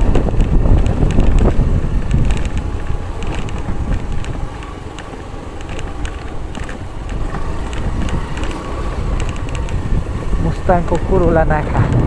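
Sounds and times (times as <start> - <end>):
motorcycle engine and tyres rumble: 0.0 - 12.0
rattles and ticks: 0.0 - 12.0
wind buffeting microphone: 0.0 - 12.0.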